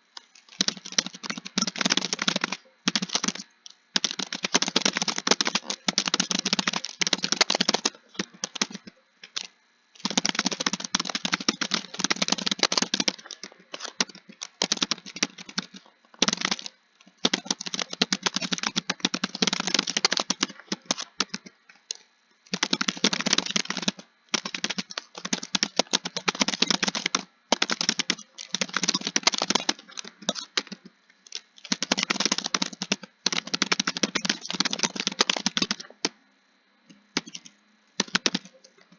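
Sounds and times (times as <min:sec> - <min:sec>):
fast typing on keyboard: 0:00.5 - 0:21.5, 0:22.5 - 0:36.2, 0:37.2 - 0:38.7.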